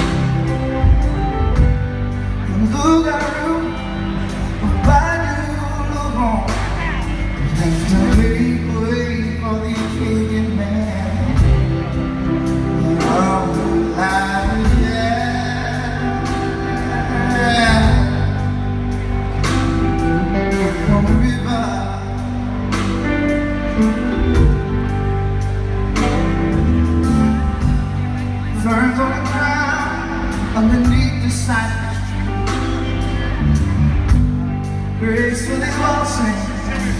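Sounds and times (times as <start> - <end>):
man singing: 0.0 - 24.9, 27.0 - 36.9
bass guitar: 0.0 - 36.9
drums: 0.0 - 36.9
electric guitar: 0.0 - 36.9.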